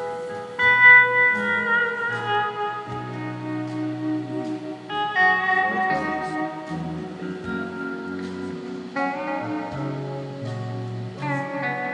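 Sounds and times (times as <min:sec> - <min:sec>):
guitar notes ringing: 0:00.0 - 0:11.9
live band playing: 0:00.0 - 0:11.9.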